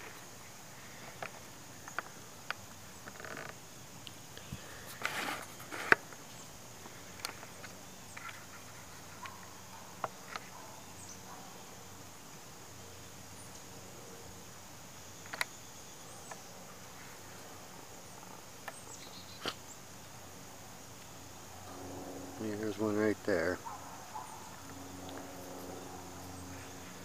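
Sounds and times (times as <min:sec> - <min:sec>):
high-pitched insect trill: 0:00.0 - 0:27.0
rustle: 0:00.0 - 0:27.0.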